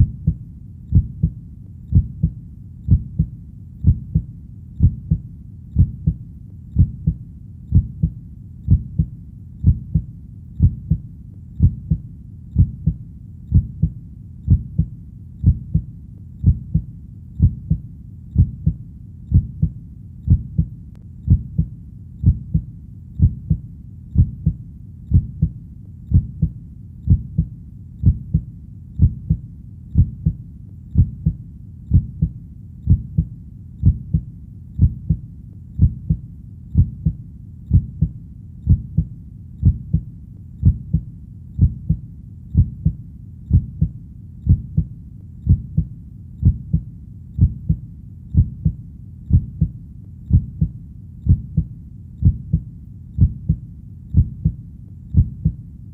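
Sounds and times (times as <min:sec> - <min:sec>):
heartbeat: 0:00.0 - 0:55.6.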